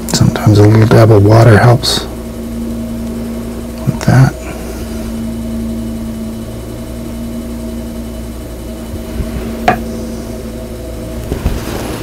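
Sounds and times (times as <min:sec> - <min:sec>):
potter's wheel motor humming: 0:00.0 - 0:12.0.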